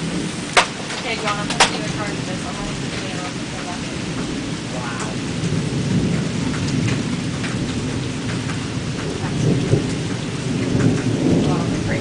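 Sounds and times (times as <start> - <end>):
heavy rain: 0.0 - 12.0
thunder rumbling: 0.0 - 12.0.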